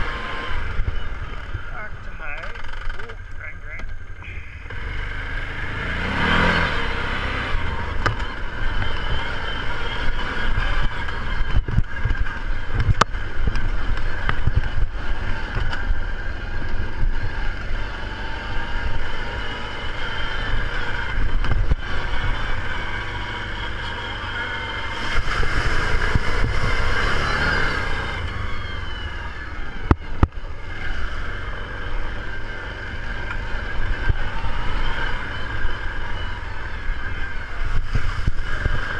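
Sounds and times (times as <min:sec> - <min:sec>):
all-terrain vehicle engine running: 0:00.0 - 0:38.9.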